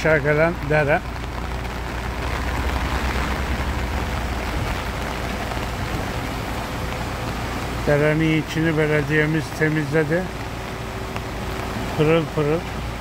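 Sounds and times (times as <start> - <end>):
water rushing down a channel: 0.0 - 13.0.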